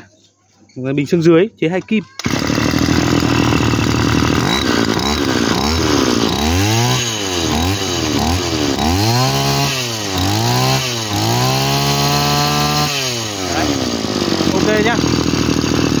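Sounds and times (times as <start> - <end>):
brush cutter engine revving: 2.0 - 16.0.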